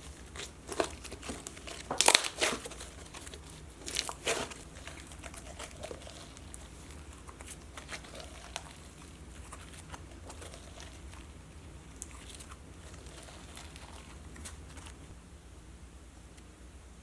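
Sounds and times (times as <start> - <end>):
slime popping and crackling: 0.0 - 15.2.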